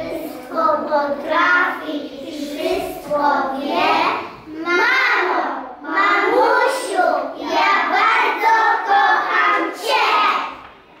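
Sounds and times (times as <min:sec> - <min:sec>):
children singing in unison: 0:00.0 - 0:10.7.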